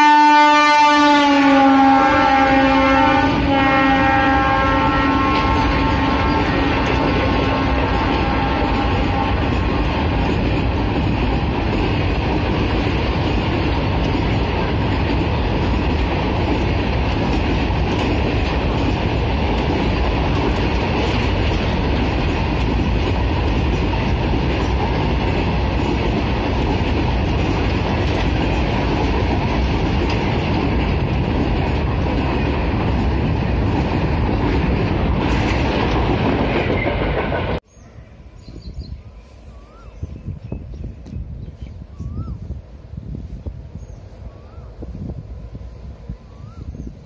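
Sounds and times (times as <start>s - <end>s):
freight train wheels rumbling on rail: 0.0s - 47.0s.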